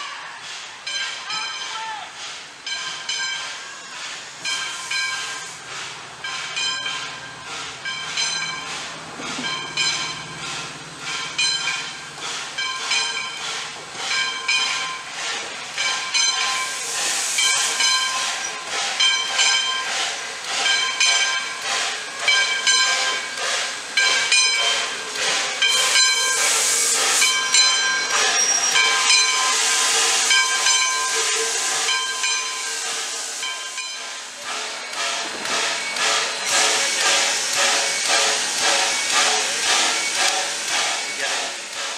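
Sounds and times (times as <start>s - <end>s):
steam hissing: 0.0s - 41.9s
steam locomotive bell ringing: 0.6s - 41.9s.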